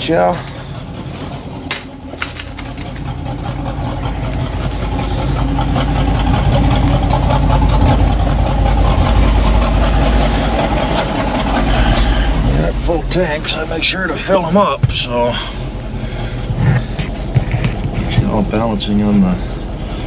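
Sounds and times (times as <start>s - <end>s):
pickup engine idling: 0.0s - 20.0s.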